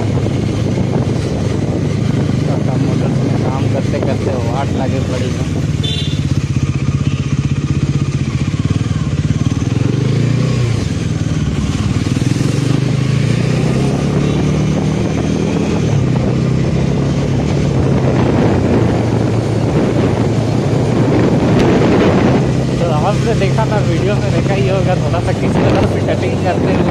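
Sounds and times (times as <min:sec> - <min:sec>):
rush of noise: 0:00.0 - 0:06.2, 0:09.6 - 0:26.9
motorcycle engine running: 0:00.0 - 0:26.9.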